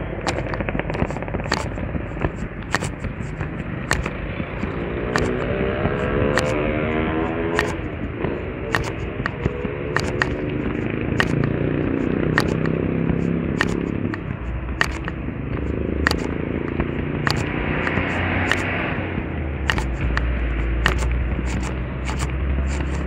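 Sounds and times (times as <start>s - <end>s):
sharp crackling clicks: 0.0s - 23.0s
vehicle engine running: 0.0s - 23.0s.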